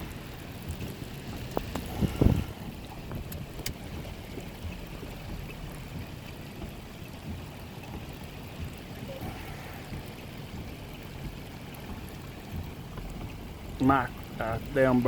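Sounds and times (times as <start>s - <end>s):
faint ticks: 0.0s - 2.0s, 3.1s - 14.8s
rain: 0.0s - 15.0s
wind: 0.0s - 15.0s.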